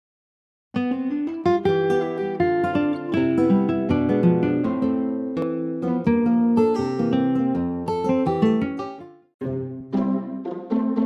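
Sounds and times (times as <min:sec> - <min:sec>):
plucked string music: 0:00.8 - 0:11.0.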